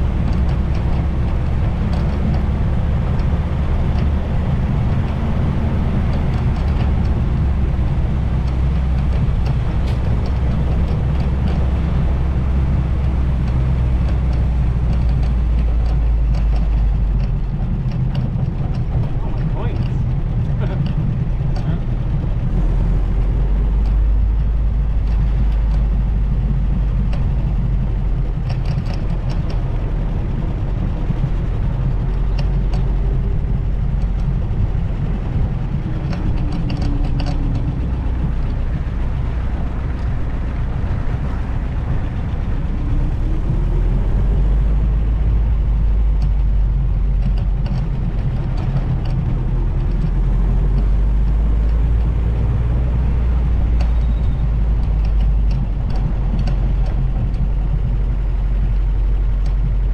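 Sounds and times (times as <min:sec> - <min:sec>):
light ticks: 0:00.0 - 0:22.5, 0:23.1 - 0:59.9
engine low rumble: 0:00.0 - 0:59.9
engine whine: 0:00.0 - 0:59.9
wind buffeting: 0:00.0 - 0:59.9.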